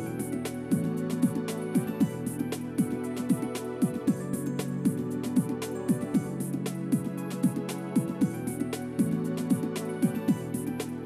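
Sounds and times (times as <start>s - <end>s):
drum-like beat: 0.0s - 11.0s.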